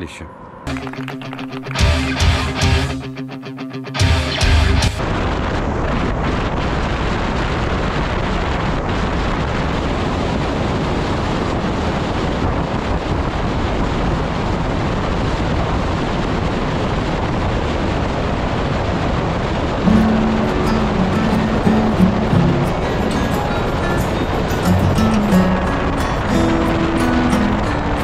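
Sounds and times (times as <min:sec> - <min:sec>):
wind noise on microphone: 0:04.0 - 0:28.0.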